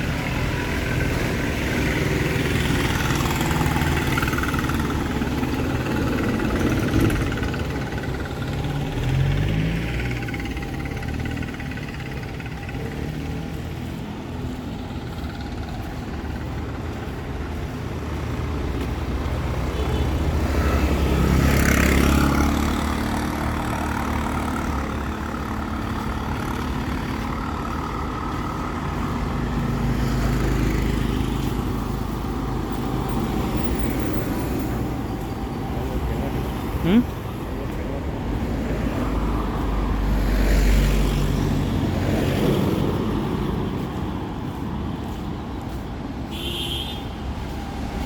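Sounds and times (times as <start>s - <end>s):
vehicle passing close: 0.0s - 46.3s
street traffic rumble: 0.0s - 48.0s.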